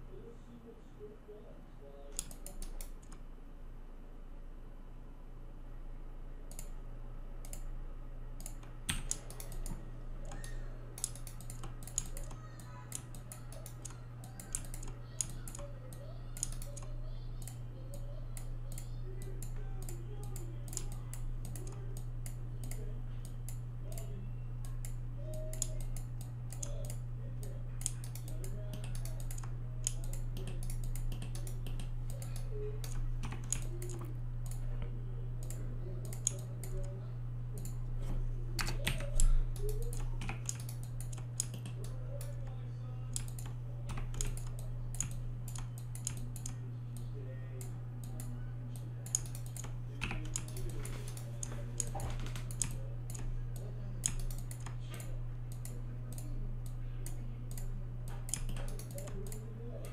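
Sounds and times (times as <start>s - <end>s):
low electrical hum: 0.0s - 59.9s
keyboard and mouse clicking: 2.1s - 3.2s, 7.4s - 7.7s, 8.4s - 46.6s, 49.0s - 59.9s.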